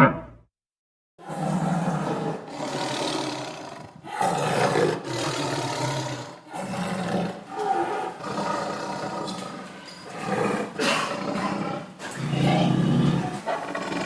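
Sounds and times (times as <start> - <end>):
tiger roaring: 1.2 - 14.0.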